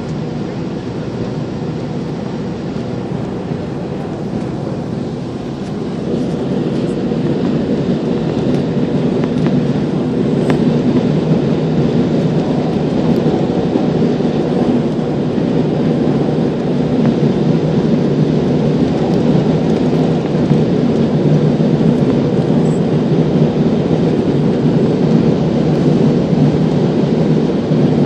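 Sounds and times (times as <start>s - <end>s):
jet engines and rushing air: 0.0s - 28.0s.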